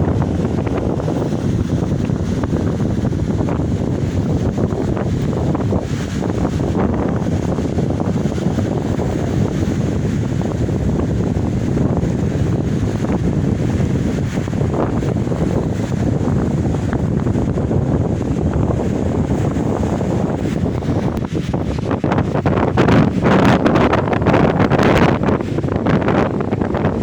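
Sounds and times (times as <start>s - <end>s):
sea surf: 0.0s - 27.0s
wind buffeting microphone: 0.0s - 27.0s.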